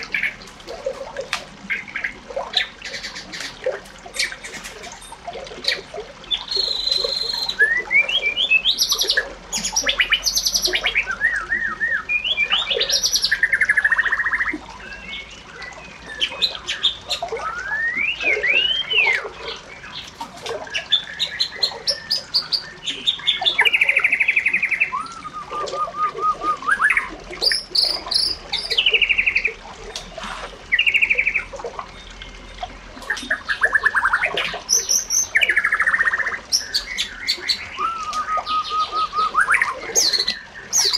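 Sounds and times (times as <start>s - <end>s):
bird singing varied song: 4.2s - 29.6s, 30.7s - 40.9s.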